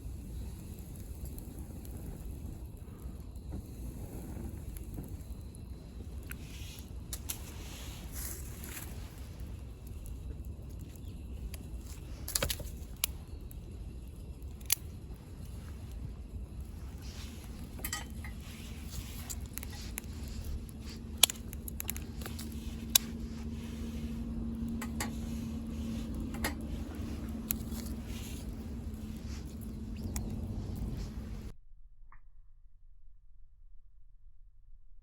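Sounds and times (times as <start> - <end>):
wood crackling and popping: 0.0 - 31.5
faint low hum: 0.0 - 35.0
low rumble of flame: 0.0 - 35.0.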